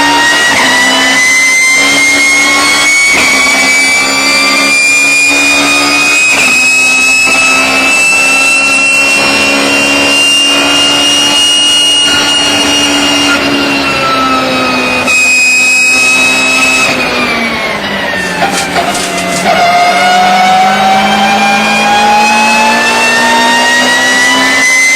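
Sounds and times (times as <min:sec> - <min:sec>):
gearbox whine: 0:00.0 - 0:24.9
race car engine at high revs: 0:00.0 - 0:24.9.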